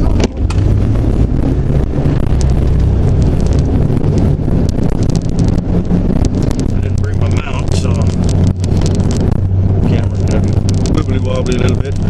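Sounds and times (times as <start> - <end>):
car engine running: 0.0 - 12.0
wind buffeting microphone: 0.0 - 12.0.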